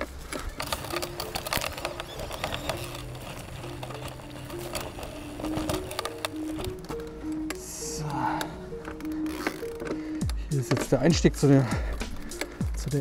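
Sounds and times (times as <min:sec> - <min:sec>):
bike rattling over dirt trail: 0:00.0 - 0:07.8, 0:08.9 - 0:13.0
background music melody: 0:00.0 - 0:13.0.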